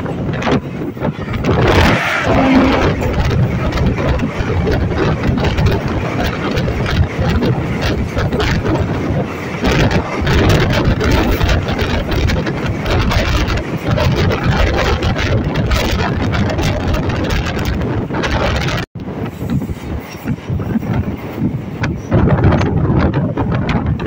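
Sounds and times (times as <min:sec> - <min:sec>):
electric train rumbling: 0:00.0 - 0:24.0
train coach rattling: 0:00.0 - 0:24.0.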